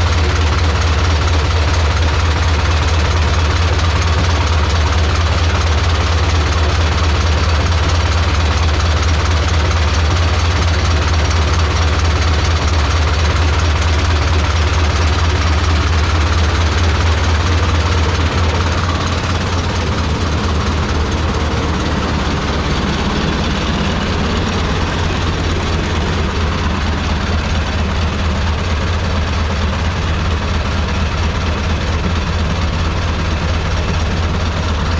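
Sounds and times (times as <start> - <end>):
tractor engine running under load: 0.0 - 34.9.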